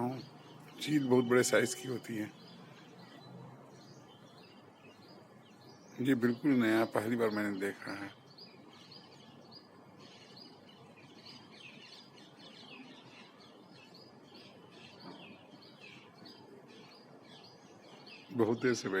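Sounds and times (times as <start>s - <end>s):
small birds chirping: 0.0s - 19.0s
soft outdoor hiss: 0.0s - 19.0s.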